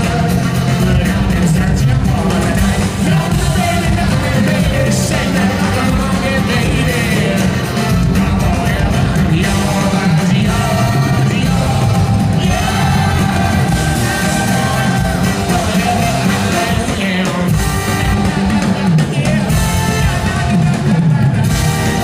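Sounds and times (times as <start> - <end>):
acoustic guitar: 0.0 - 22.0
bass: 0.0 - 22.0
drums: 0.0 - 22.0
man singing lead: 0.0 - 22.0
rock band playing live: 0.0 - 22.0.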